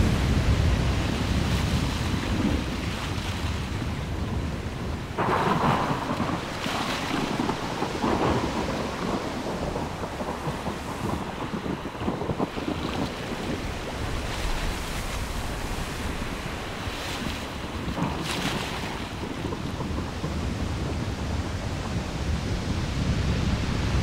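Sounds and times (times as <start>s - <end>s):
rain rushing: 0.0s - 24.0s
thunder rumbling: 0.0s - 24.0s.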